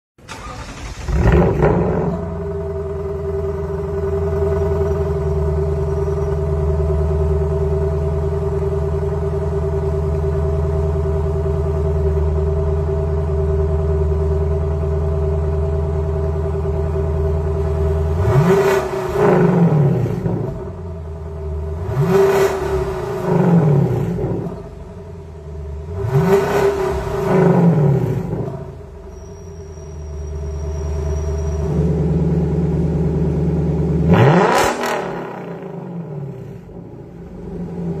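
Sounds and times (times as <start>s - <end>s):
car engine idling: 0.2s - 38.0s
car engine revving: 0.2s - 38.0s.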